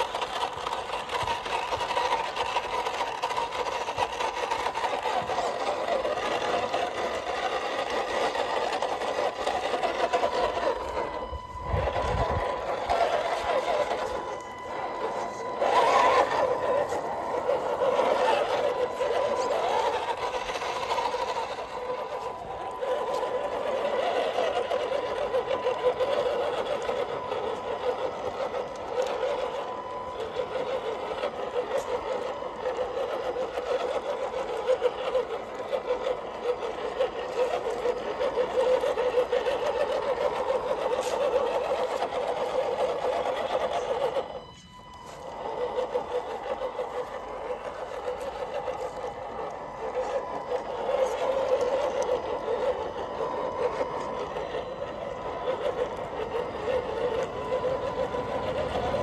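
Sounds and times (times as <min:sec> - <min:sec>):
toy truck electric motor whining: 0:00.0 - 0:59.0.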